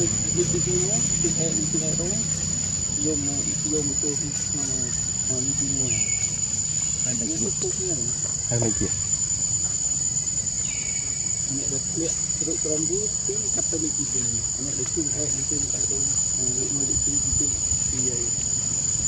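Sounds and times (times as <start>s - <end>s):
insects shrilling drone: 0.0s - 19.0s.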